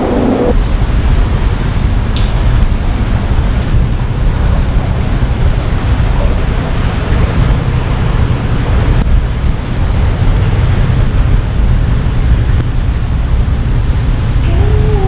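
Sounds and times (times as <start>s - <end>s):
diesel boat engine rumble: 0.0s - 15.0s
rushing noise: 0.0s - 15.0s.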